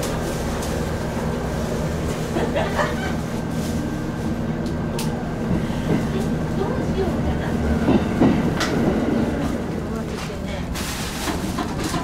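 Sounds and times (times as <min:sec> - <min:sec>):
train cabin rumble and hum: 0:00.0 - 0:12.0.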